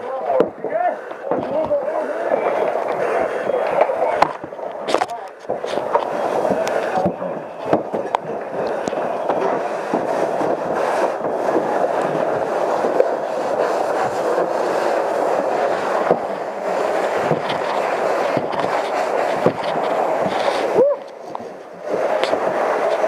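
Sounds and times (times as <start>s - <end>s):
house fire burning: 0.0s - 23.0s.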